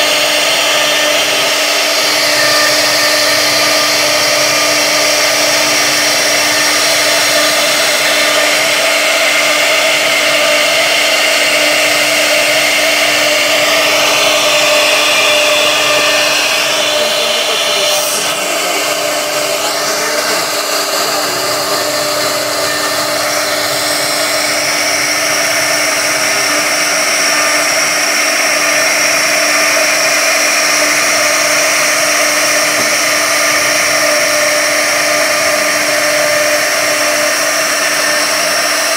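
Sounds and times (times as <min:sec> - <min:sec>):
bit cutting wood: 0:00.0 - 0:38.9
router spindle high whine: 0:00.0 - 0:38.9.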